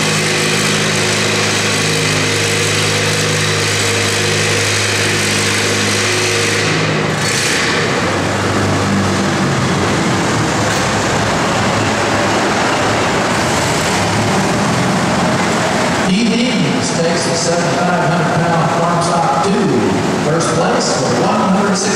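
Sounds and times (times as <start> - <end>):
tractor engine under load: 0.0 - 21.9.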